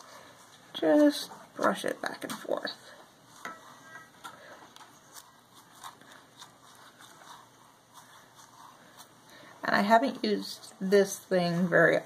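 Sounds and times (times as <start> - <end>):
brush scrubbing on silicone: 0.0 - 12.0.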